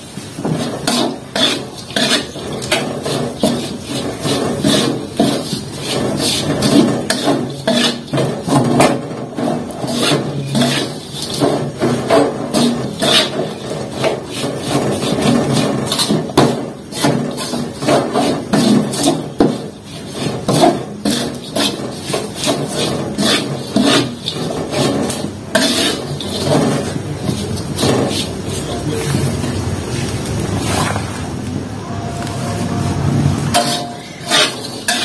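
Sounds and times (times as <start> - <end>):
metal spatula scraping a wok: 0.0 - 31.2, 32.4 - 35.0.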